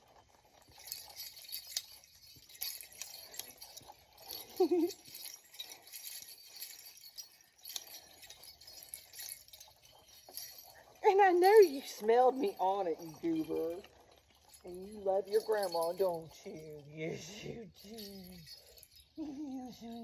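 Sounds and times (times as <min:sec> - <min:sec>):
small hard objects clinking: 0:00.0 - 0:20.0.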